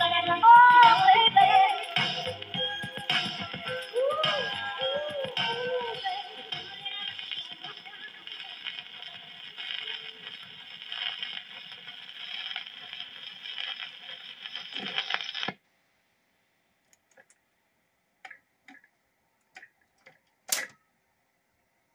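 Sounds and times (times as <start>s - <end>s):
record surface noise and crackle: 0.0s - 15.8s, 18.2s - 20.9s.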